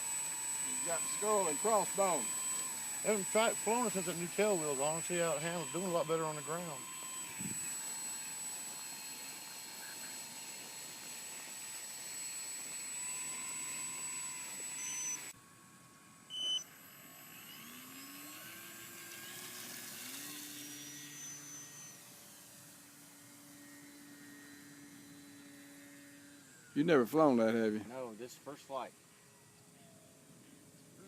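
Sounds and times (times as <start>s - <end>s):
model plane electric motor whining: 0.0s - 31.0s.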